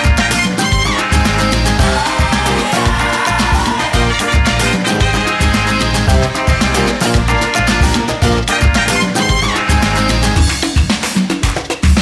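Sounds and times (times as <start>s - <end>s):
upbeat salsa music with brass: 0.0s - 12.0s.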